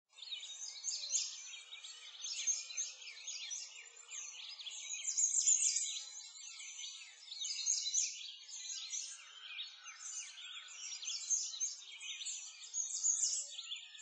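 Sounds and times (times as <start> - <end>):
songbirds chirping and singing: 0.1 - 14.0.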